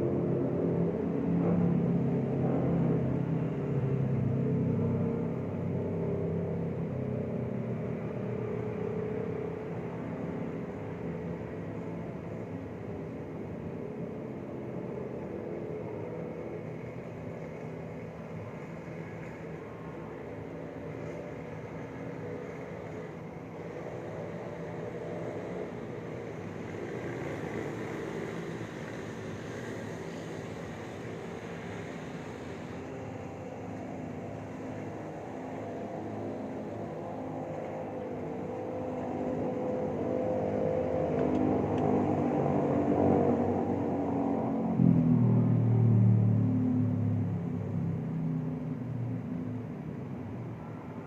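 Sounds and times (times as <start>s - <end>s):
hum of motor traffic: 0.0s - 51.0s.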